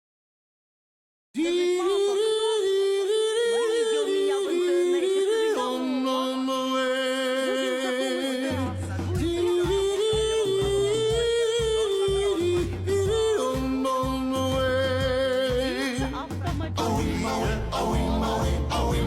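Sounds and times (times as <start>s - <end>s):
a cappella group singing: 1.4s - 19.0s
low bass voice singing: 1.4s - 19.0s.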